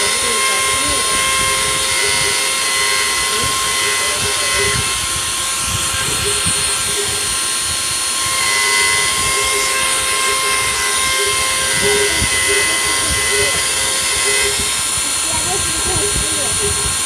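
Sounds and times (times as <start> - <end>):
router spindle high whine: 0.0 - 17.0.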